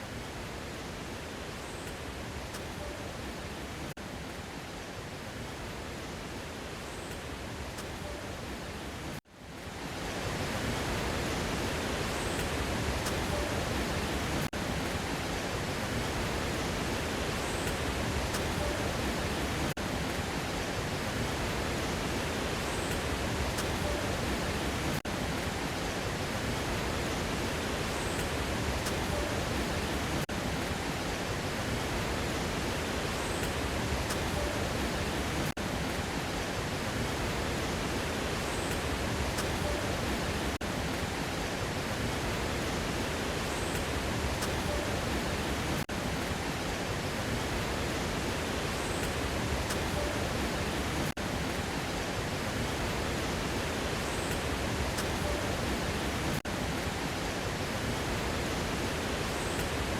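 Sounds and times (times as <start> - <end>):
waterfall rushing: 9.7 - 59.9.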